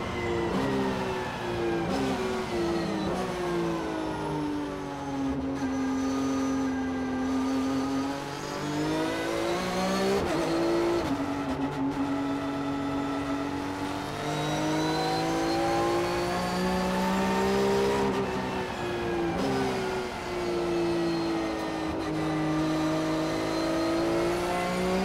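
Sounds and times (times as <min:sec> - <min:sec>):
race car engine at speed: 0:00.0 - 0:25.0.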